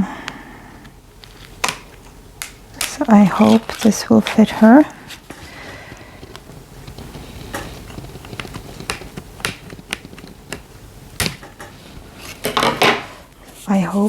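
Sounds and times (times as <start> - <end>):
packaging rustling: 1.2 - 12.7.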